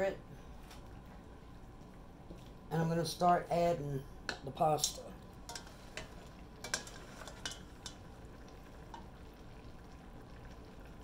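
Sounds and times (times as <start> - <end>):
faint frying: 0.0 - 11.0.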